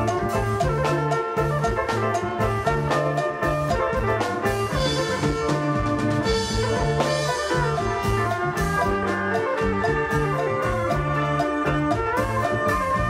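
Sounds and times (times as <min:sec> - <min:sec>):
live band music over pa: 0:00.0 - 0:13.0.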